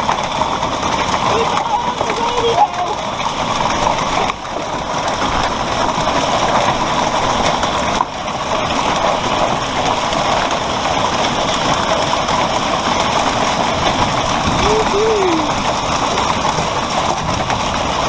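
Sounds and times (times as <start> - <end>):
heavy hail and rain clattering: 0.0 - 18.0.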